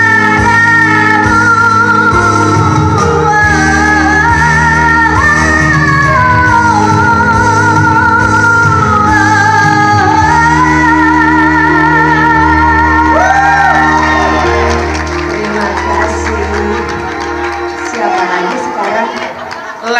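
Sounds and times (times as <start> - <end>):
electronic keyboard chords: 0.0 - 19.5
woman singing into microphone: 0.0 - 19.9.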